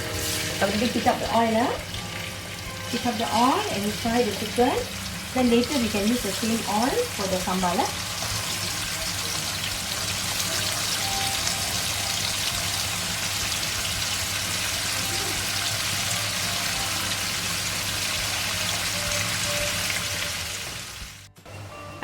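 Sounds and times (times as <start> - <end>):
chicken sizzling in hot oil: 0.0 - 21.3
faint background music: 0.0 - 22.0.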